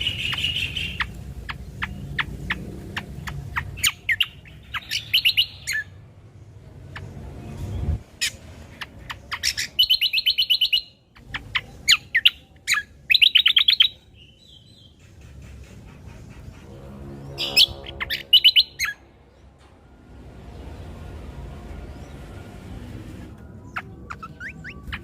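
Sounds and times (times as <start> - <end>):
bird singing with rattling trills: 0.0 - 6.0, 6.8 - 19.6, 23.2 - 25.0.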